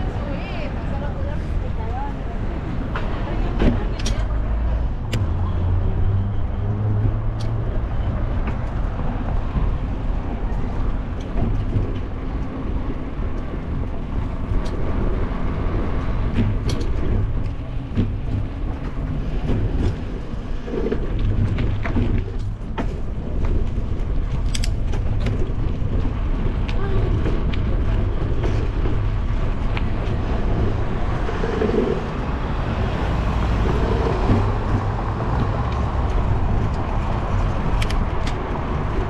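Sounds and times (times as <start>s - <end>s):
wind noise on microphone: 0.0s - 39.0s
bike rattling over pavement joints: 5.3s - 39.0s.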